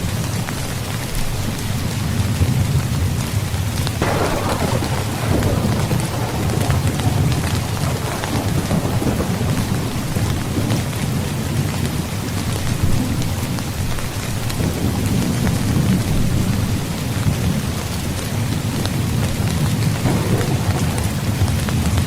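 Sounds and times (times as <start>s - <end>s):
heavy rain falling: 0.0s - 22.0s
low rolling thunder: 2.1s - 22.0s.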